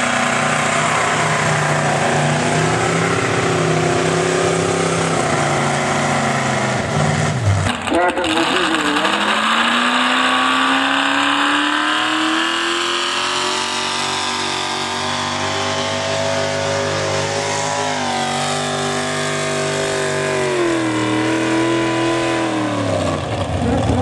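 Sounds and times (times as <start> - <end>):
tractor engine running hard: 0.0 - 24.0.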